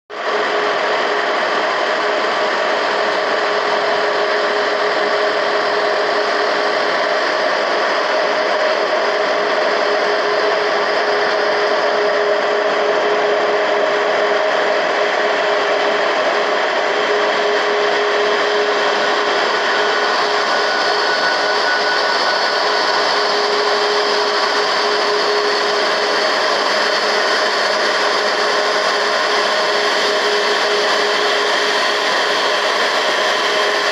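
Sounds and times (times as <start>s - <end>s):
jet engines idling: 4.0s - 33.9s.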